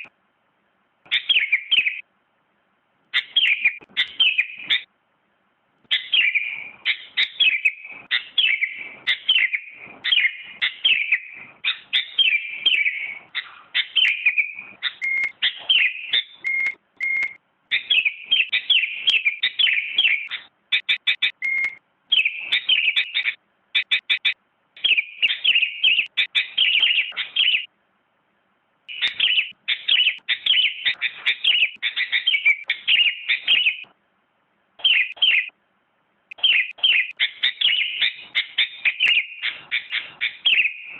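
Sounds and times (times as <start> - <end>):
bird chattering chirps: 1.1 - 2.0, 3.1 - 4.9, 5.9 - 27.7, 28.9 - 33.9, 34.8 - 35.5, 36.3 - 40.9.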